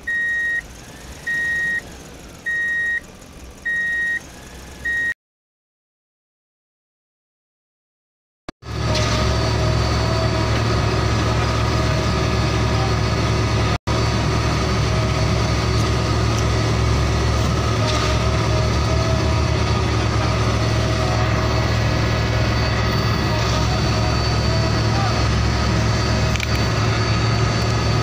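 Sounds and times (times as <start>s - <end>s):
truck engine idling: 0.0s - 5.1s, 8.6s - 28.0s.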